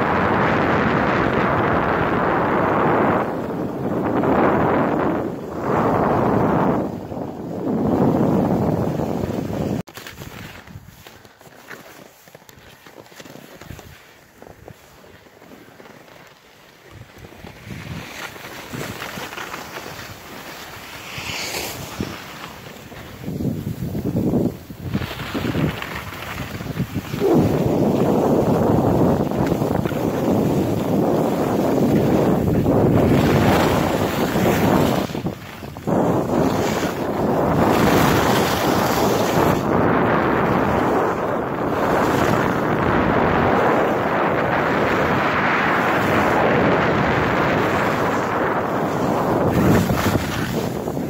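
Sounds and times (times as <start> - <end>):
wind on microphone: 0.0 - 11.2, 16.7 - 51.0
skis sliding over snow: 0.1 - 51.0.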